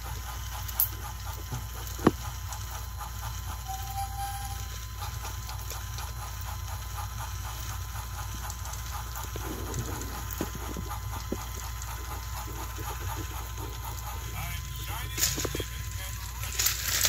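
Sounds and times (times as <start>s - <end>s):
fast clicking of wheels and gears: 0.0s - 17.0s
toy train motor hum: 0.0s - 17.0s.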